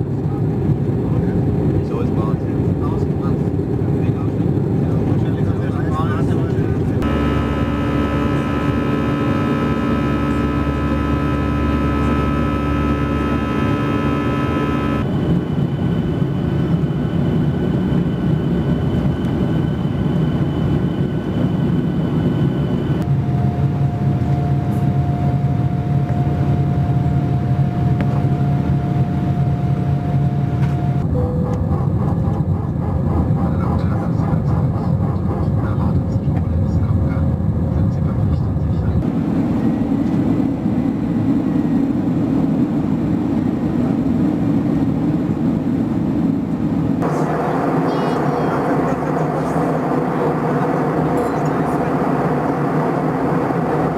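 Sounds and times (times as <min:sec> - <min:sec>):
airliner cabin engine rush and hum: 0:00.0 - 0:53.9.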